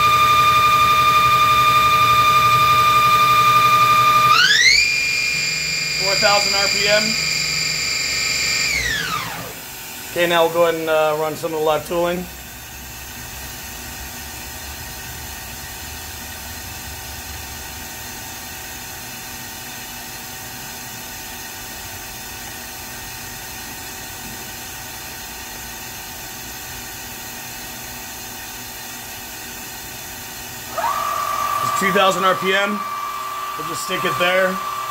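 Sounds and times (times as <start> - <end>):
machine humming and hissing: 0.0 - 18.1, 22.1 - 34.9.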